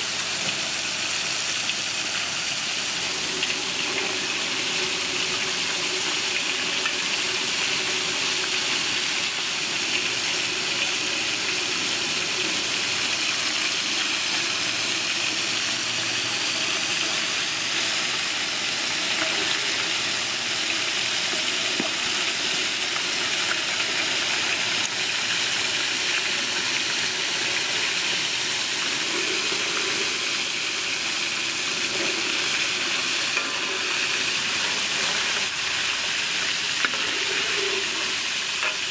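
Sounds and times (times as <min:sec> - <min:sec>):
food frying in hot oil: 0:00.0 - 0:38.9.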